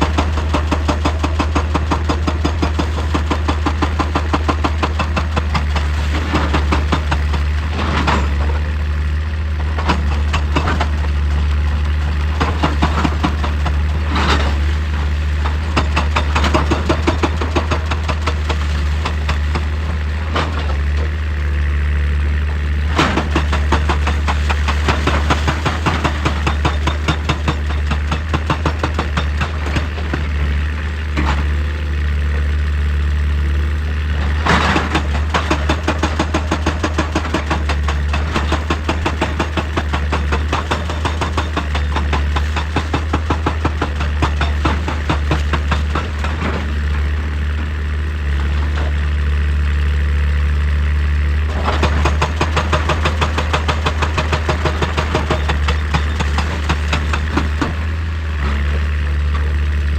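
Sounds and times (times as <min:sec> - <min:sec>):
excavator diesel engine clattering: 0:00.0 - 0:59.9.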